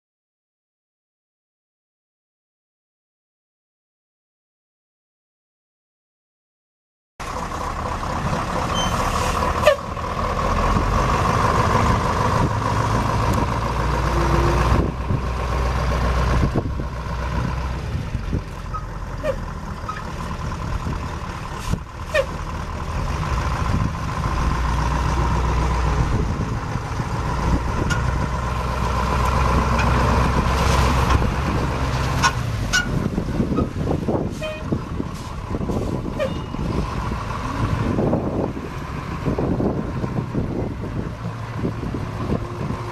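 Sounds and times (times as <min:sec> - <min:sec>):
diesel truck engine rumbling: 0:07.2 - 0:42.9.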